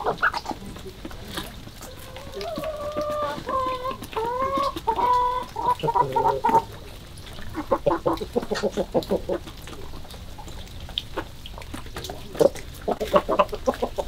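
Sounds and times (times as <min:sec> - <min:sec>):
chickens clucking and calling: 0:00.0 - 0:14.0.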